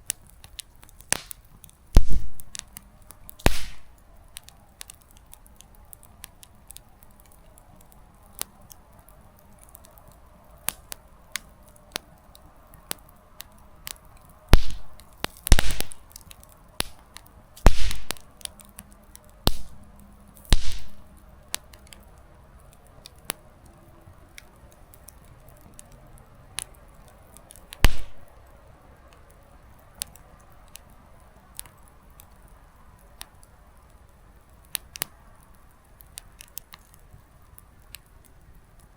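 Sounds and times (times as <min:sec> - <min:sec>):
campfire crackling and popping: 0:00.0 - 0:38.9
faint steady hiss: 0:00.0 - 0:38.9.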